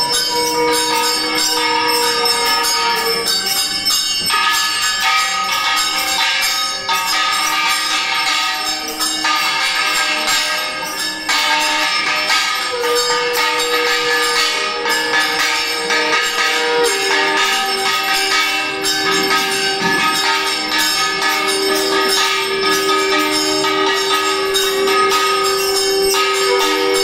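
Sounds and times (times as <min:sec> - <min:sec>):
brass bells ringing rapidly: 0:00.0 - 0:27.0.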